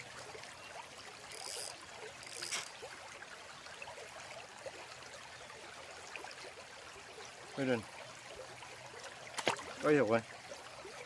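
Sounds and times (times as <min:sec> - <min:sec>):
water trickling and lapping: 0:00.0 - 0:11.0.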